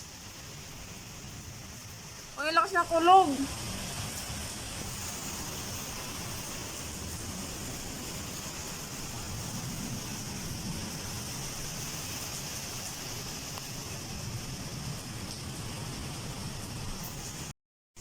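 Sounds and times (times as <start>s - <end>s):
heavy rain hissing: 0.0s - 17.5s.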